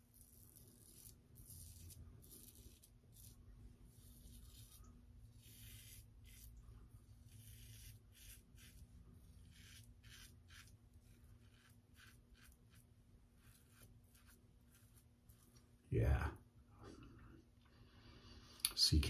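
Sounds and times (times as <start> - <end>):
razor scraping stubble: 0.0 - 15.6.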